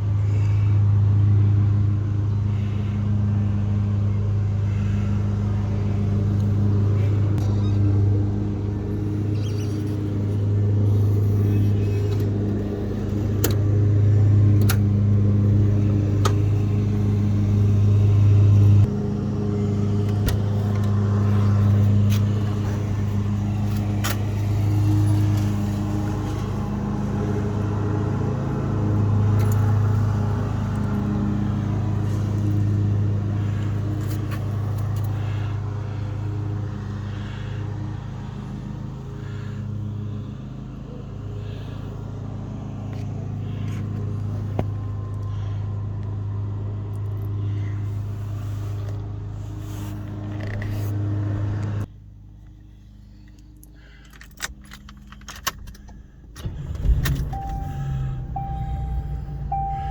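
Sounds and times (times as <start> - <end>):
car engine idling: 0.1 - 50.7, 51.3 - 59.9.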